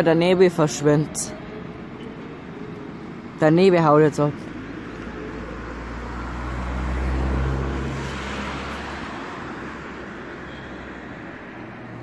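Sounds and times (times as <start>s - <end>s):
passing vehicle engine hum: 0.0s - 12.0s.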